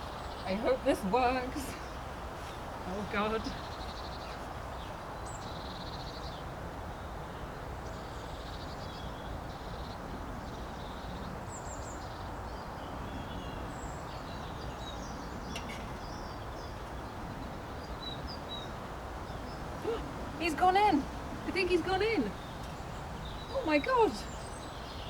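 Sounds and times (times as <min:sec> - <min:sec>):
small birds chirping and trilling: 0:00.0 - 0:25.0.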